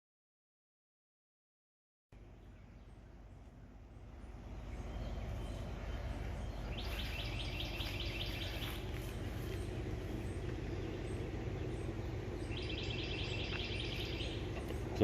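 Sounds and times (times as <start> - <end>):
low outdoor rumble: 2.2 - 15.0
songbird trilling: 2.4 - 15.0.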